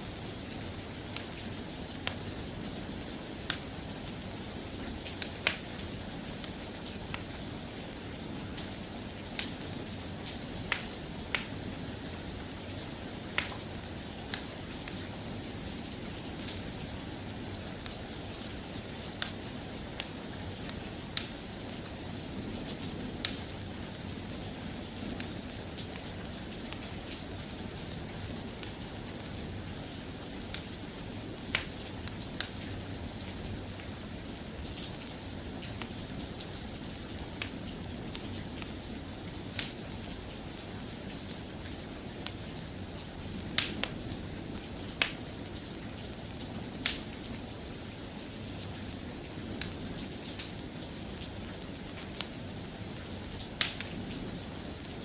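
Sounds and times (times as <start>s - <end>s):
soft rain hiss: 0.0s - 55.0s.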